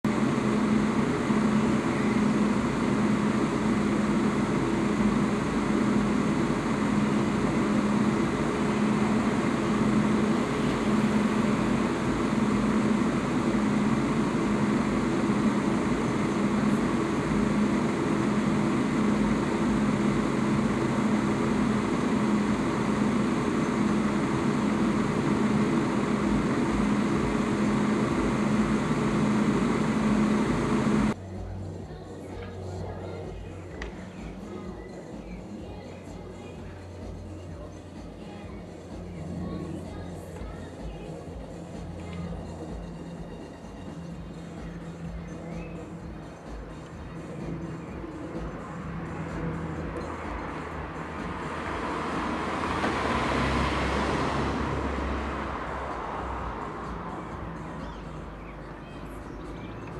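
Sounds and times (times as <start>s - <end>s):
convertible top motor hum: 0.0s - 59.9s.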